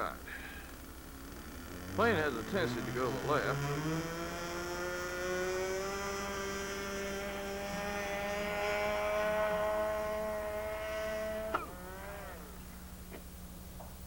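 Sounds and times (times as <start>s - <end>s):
model aircraft engine running: 0.0s - 13.7s.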